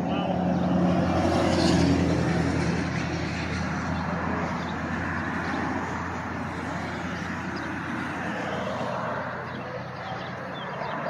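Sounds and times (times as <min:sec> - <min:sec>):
people chattering outdoors: 0:00.0 - 0:11.0.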